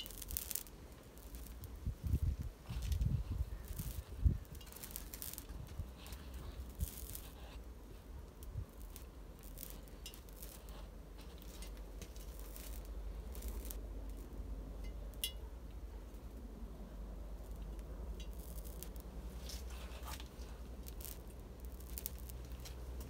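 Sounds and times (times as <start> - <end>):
horsehair crackling and hissing: 0.0 - 14.5, 16.1 - 23.0
steady low rumble: 0.0 - 23.0.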